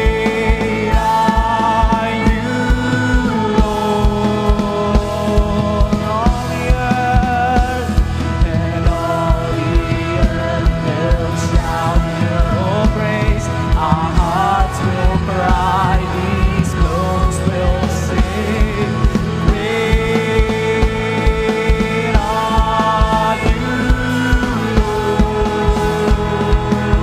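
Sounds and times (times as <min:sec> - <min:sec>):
keyboard: 0:00.0 - 0:27.0
man and woman singing: 0:00.0 - 0:27.0.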